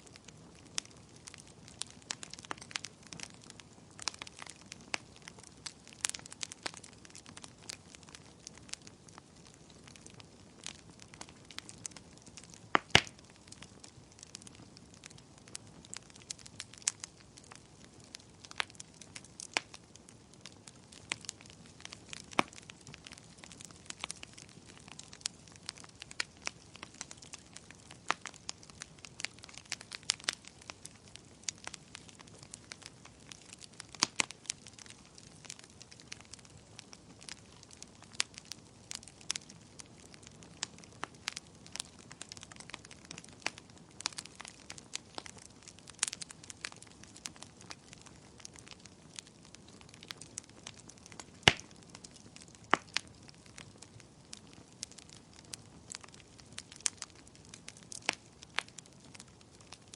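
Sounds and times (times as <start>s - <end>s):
wood crackling and popping: 0.0s - 59.9s.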